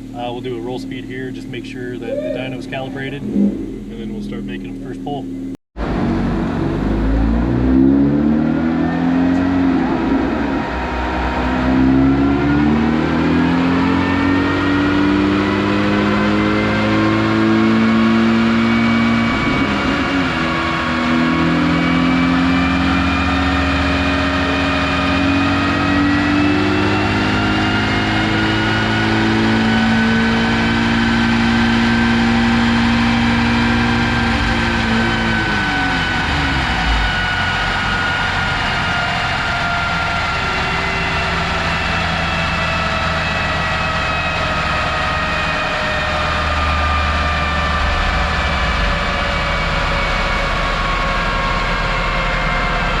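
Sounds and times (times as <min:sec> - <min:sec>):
tyre and roller whine: 0:00.0 - 0:53.0
car engine revving on dyno: 0:05.8 - 0:53.0.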